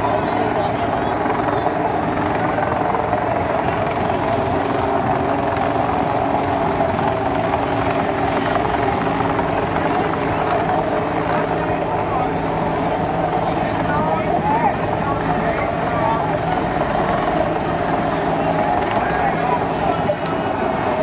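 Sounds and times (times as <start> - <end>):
crowd voices and commotion: 0.0 - 21.0
helicopter drone: 0.0 - 21.0.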